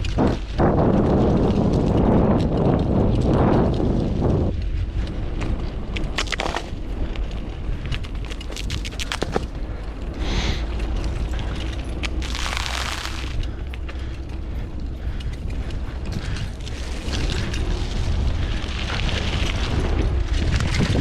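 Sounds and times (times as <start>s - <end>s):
bike parts clicking and rattling: 0.0s - 21.0s
wind rumble on microphone: 0.0s - 21.0s.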